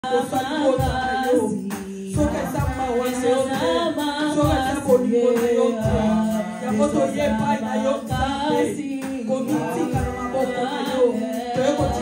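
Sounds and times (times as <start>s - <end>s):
drum beats: 0.0s - 12.0s
voices singing worship music: 0.0s - 12.0s.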